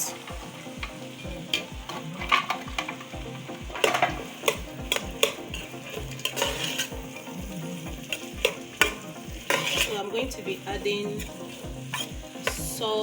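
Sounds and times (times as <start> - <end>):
vegetables sizzling in hot oil: 0.0 - 13.0
utensil clicking against pot: 0.1 - 12.8.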